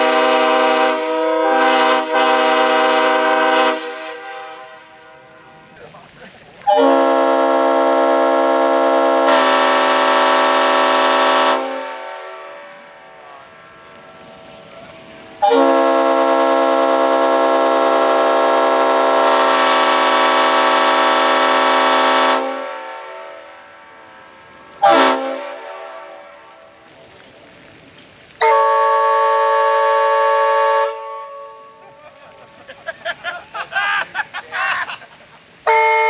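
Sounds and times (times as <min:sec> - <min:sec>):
locomotive air horn: 0:00.0 - 0:05.7, 0:06.6 - 0:26.9, 0:28.4 - 0:32.1, 0:35.6 - 0:36.0.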